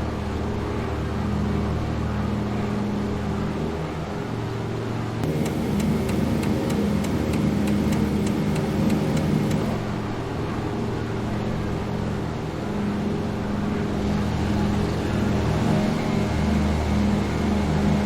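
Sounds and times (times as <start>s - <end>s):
propeller engines droning: 0.0s - 18.0s.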